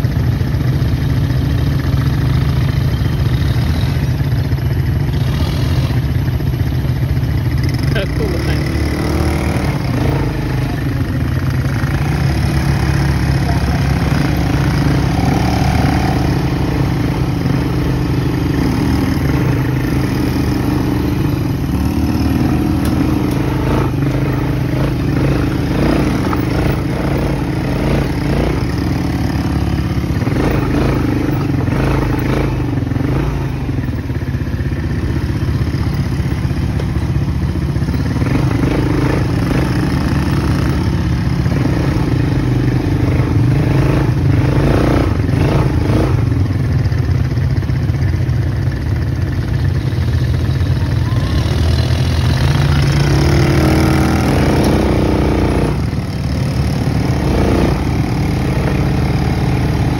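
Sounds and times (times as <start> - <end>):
quad bike engines running: 0.0 - 59.9.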